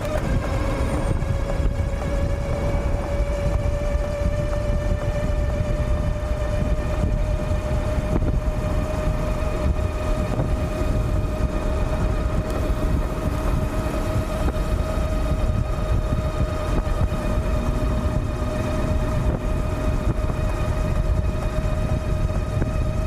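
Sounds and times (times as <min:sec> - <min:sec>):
electric bike motor whining: 0:00.0 - 0:23.0
wind rumble on microphone: 0:00.0 - 0:23.0.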